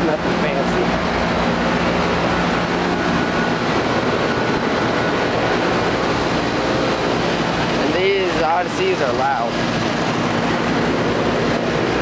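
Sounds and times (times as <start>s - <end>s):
condenser fans rushing: 0.0s - 12.0s
faint compressor hum: 0.0s - 12.0s.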